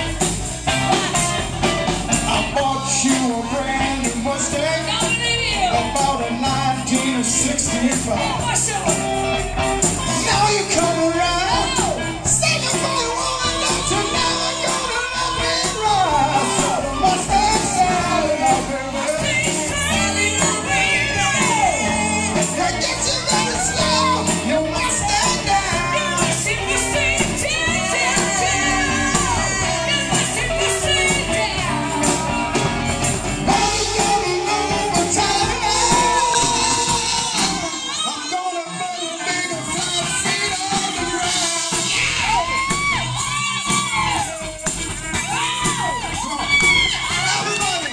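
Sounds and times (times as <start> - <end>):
drum kit: 0.0 - 38.0, 39.3 - 47.9
electric guitars: 0.0 - 47.9
people singing: 0.0 - 47.9.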